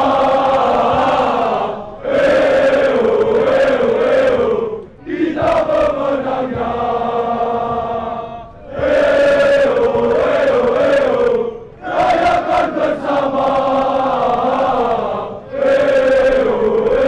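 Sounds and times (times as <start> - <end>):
crowd chanting in unison: 0.0 - 17.0.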